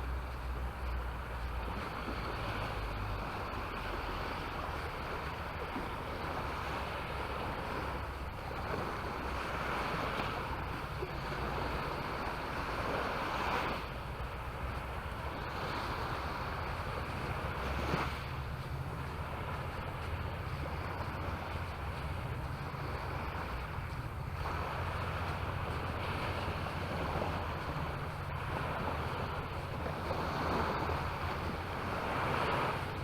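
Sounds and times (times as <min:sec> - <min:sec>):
surf washing onto beach: 0:00.0 - 0:33.0
wind rumble on microphone: 0:00.0 - 0:33.0.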